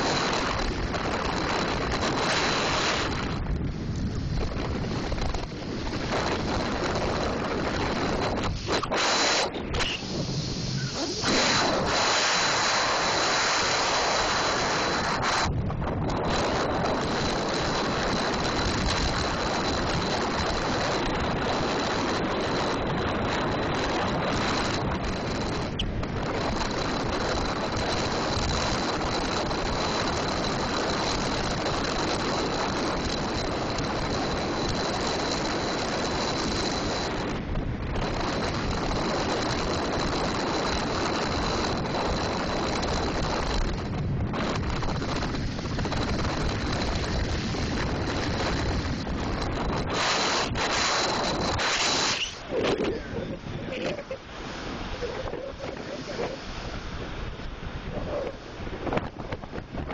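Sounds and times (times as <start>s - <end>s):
wind roaring over microphone: 0.0s - 59.9s.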